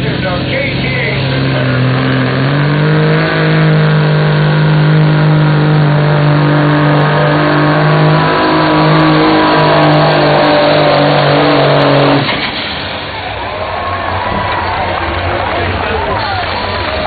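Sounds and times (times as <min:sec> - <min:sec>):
diesel truck engine at full throttle: 0:00.0 - 0:17.0.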